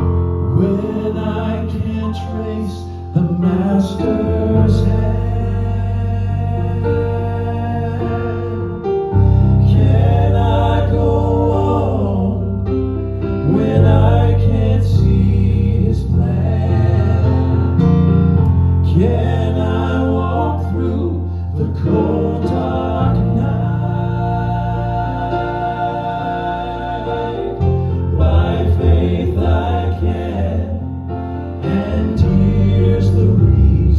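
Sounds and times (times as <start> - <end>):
gospel vocal group singing: 0.0 - 33.9
instrumental accompaniment with bass: 0.0 - 33.9.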